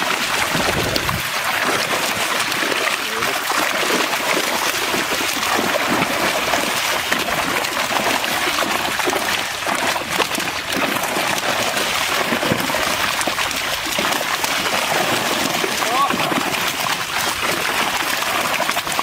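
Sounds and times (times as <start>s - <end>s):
fish splashing in a net: 0.0s - 19.0s.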